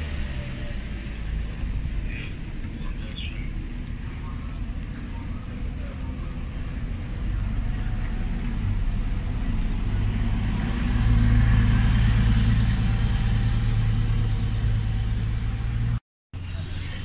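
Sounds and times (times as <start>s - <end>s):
city bus engine rumbling: 0.0s - 17.0s.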